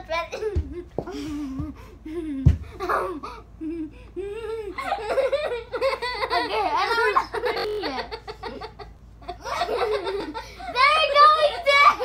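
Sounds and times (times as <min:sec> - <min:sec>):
girls laughing: 0:00.3 - 0:12.0.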